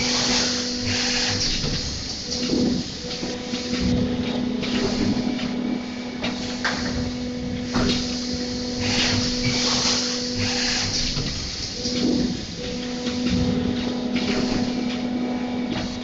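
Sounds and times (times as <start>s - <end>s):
machine clunks: 0.0s - 16.0s
steady machine hum: 0.0s - 16.0s.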